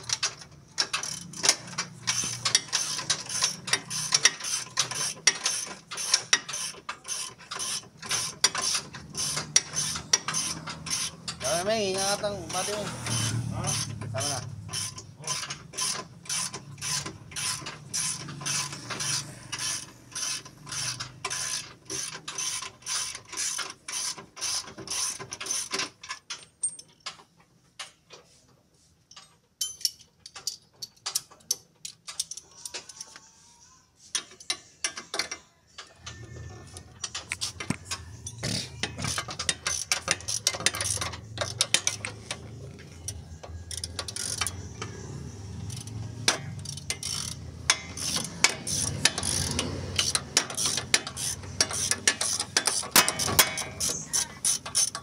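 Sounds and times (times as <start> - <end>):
ratchet wrench clicking: 0.0 - 27.2, 29.6 - 33.2, 34.1 - 55.0.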